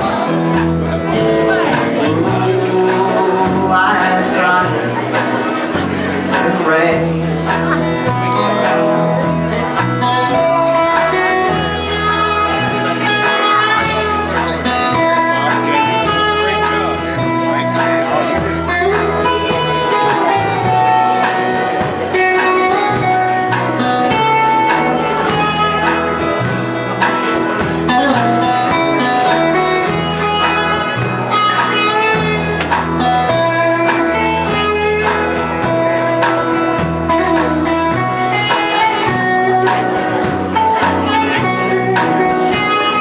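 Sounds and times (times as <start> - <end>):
country band playing: 0.0 - 43.0
guitar melody: 0.0 - 43.0
walking bass line: 0.0 - 43.0.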